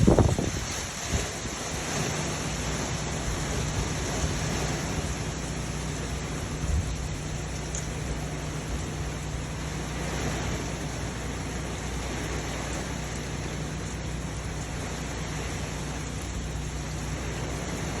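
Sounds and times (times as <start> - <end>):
heavy rain: 0.0 - 18.0
strong storm wind: 0.0 - 18.0.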